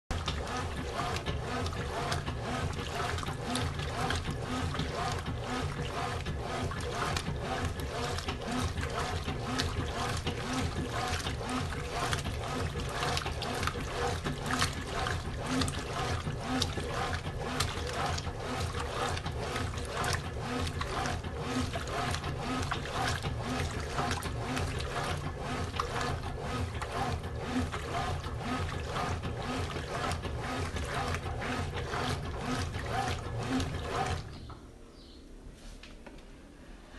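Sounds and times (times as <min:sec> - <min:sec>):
washing machine water churning: 0:00.0 - 0:34.8
low motor hum: 0:00.1 - 0:34.8.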